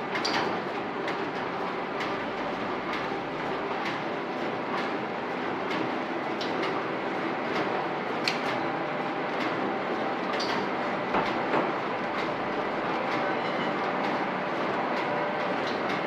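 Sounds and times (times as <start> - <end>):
packing machine running: 0.0 - 16.0.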